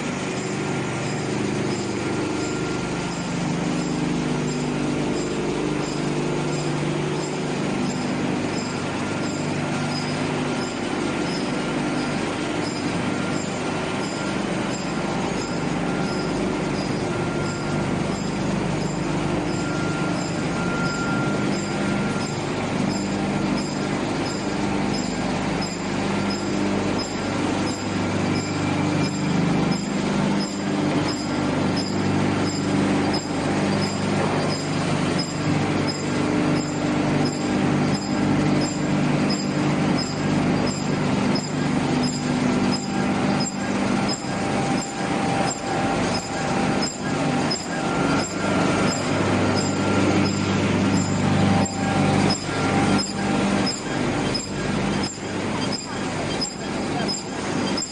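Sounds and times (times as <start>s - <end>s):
drone of motors and conveyors: 0.0s - 57.9s
regular machine ticking: 0.0s - 57.9s.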